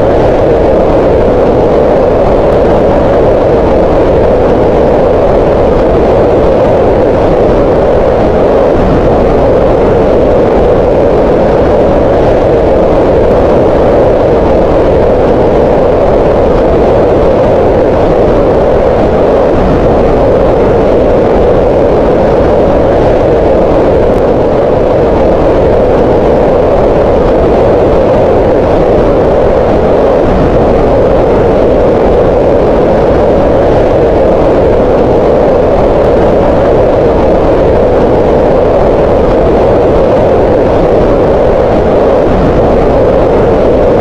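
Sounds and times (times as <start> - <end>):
steady synthetic green noise: 0.0 - 44.0.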